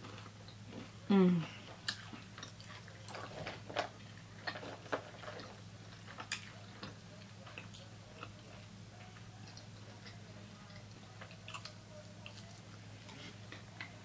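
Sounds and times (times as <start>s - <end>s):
chewing fried food: 0.0s - 14.0s.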